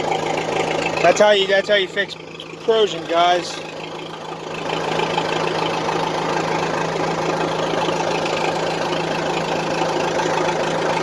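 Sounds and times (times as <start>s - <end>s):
backhoe engine idling: 0.0s - 11.0s.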